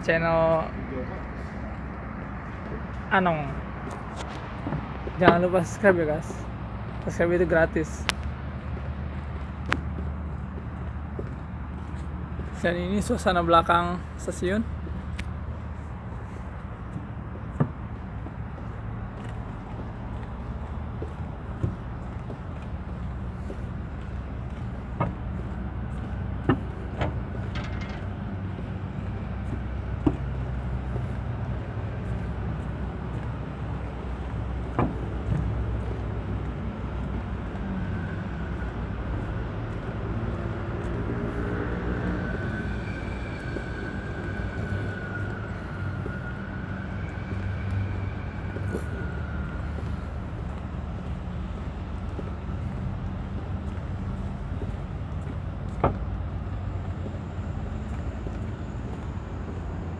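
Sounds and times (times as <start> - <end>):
vehicle traffic rumble: 0.0 - 59.9.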